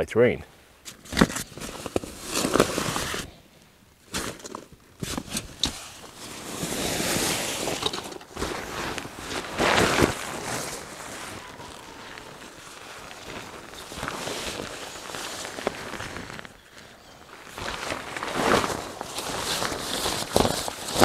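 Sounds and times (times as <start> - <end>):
fabric rustling and swishing: 1.0 - 3.3, 4.0 - 21.0.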